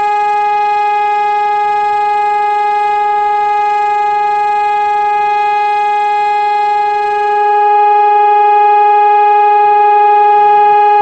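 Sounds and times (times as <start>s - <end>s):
electronic siren steady tone: 0.0s - 11.0s.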